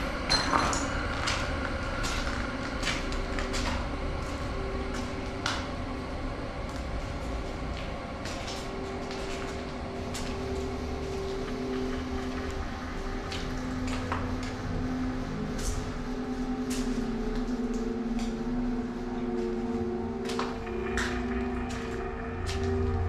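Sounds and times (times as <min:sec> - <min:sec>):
low droning tone: 0:00.0 - 0:23.0.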